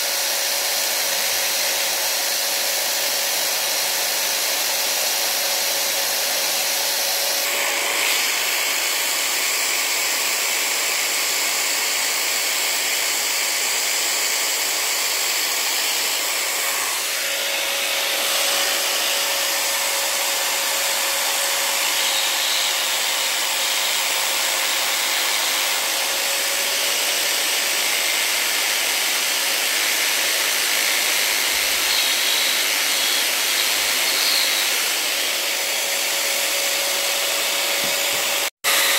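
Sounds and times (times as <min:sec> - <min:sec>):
bit grinding wood: 0:00.0 - 0:38.9
electric drill motor whine: 0:00.0 - 0:38.9.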